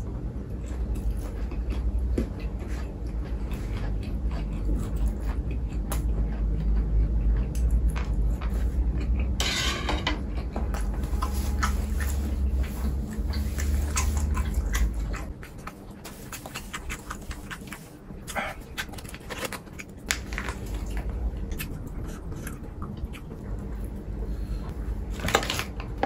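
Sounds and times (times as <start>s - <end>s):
person biting and chewing food: 0.3s - 9.4s, 10.2s - 26.0s.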